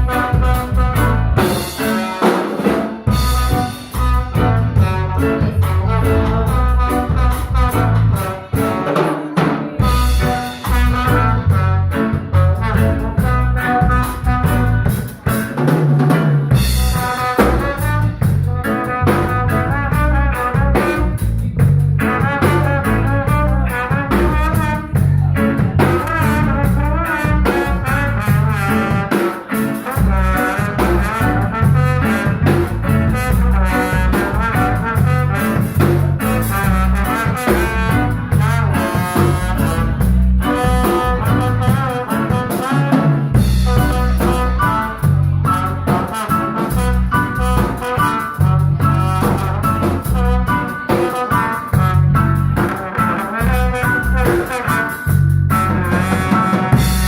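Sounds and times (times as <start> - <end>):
brass horn lines: 0.0 - 9.2, 9.8 - 15.3, 16.6 - 57.0
drum kit steady beat: 0.0 - 57.0
live instrumental band playing: 0.0 - 57.0.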